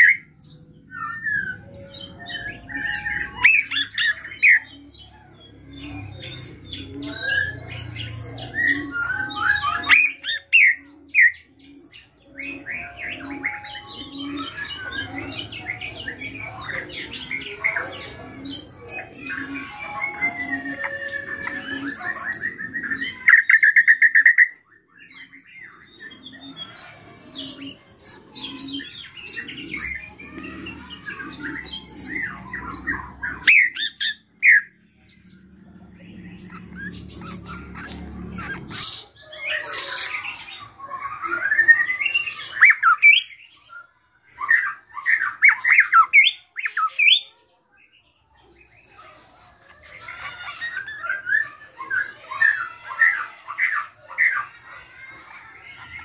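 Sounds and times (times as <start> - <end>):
bird singing chattering song: 0.0 - 56.0.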